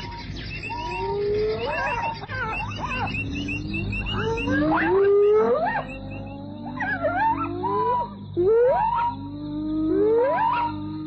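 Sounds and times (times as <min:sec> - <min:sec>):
hyenas and jackals calling: 0:00.0 - 0:11.0.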